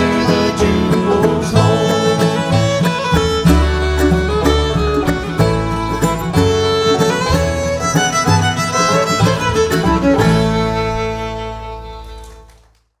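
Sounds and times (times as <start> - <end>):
bluegrass band chord: 0.0 - 12.5
fiddle playing quick notes: 0.0 - 12.8.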